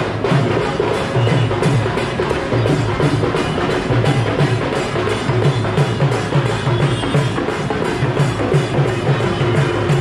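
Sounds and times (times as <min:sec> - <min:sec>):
barrel drum beaten by hand: 0:00.0 - 0:10.0.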